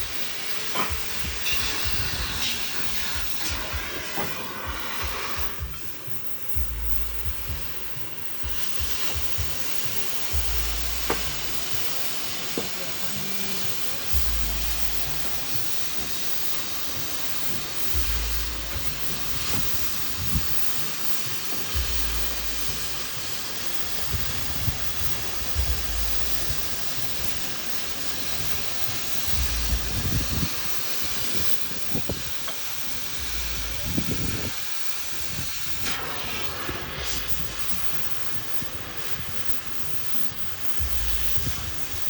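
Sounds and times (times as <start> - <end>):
cutting torch hissing: 0.0 - 42.0.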